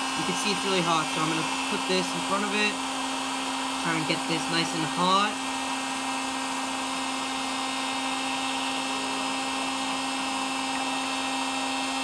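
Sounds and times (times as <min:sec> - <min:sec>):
heat gun fan humming: 0:00.0 - 0:12.0
hot air blowing: 0:00.0 - 0:12.0.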